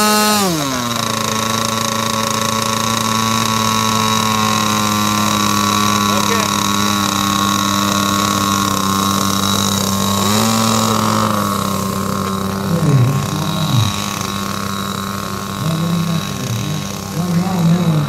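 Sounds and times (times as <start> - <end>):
model airplane engine idling: 0.0 - 18.0.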